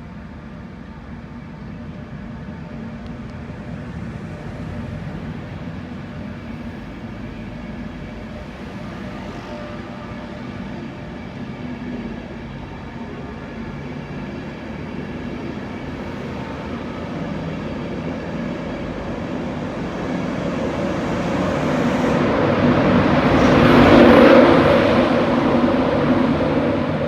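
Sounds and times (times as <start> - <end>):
electric train hum and rumble: 0.0 - 27.0.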